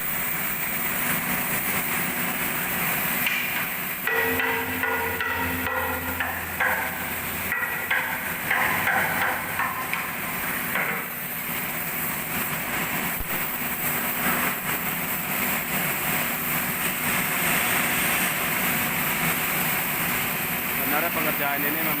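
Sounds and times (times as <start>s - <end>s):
workshop machinery din: 0.0s - 22.0s.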